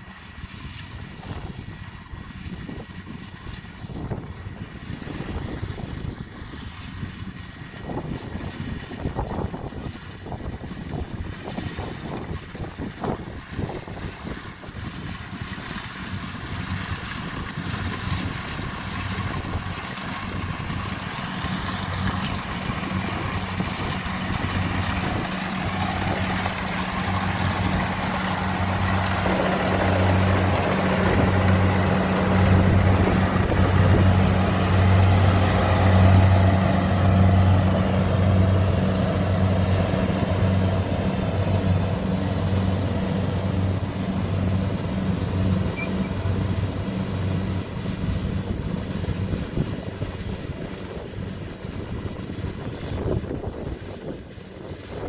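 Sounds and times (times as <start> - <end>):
combine harvester engine hum: 0.0 - 55.0
threshing machinery rushing noise: 0.0 - 55.0.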